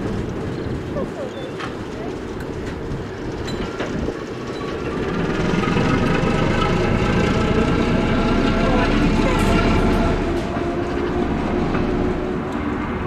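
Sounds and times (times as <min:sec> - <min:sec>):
train approaching: 0:00.0 - 0:13.0.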